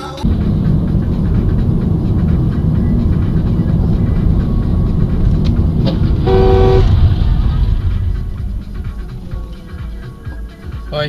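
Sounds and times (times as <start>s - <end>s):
vehicle road and engine rumble: 0.0s - 11.0s.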